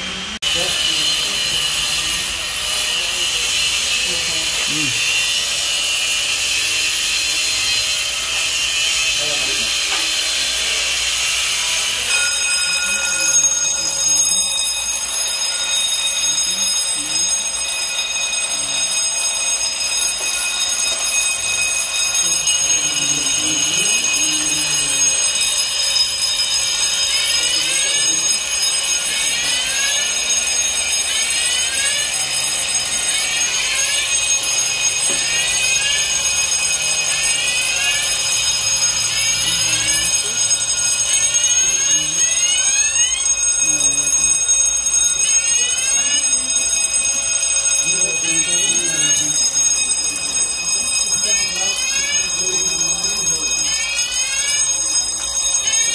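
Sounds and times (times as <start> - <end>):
fire alarm steady tones: 0.0 - 55.9.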